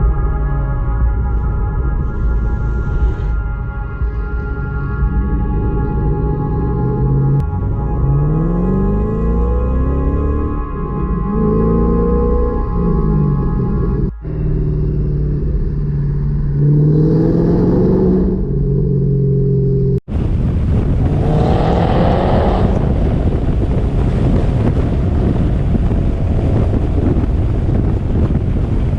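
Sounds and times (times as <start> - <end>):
heavy wind noise: 0.0 - 28.9
car engines revving: 4.0 - 28.9
car accelerating: 4.2 - 28.9.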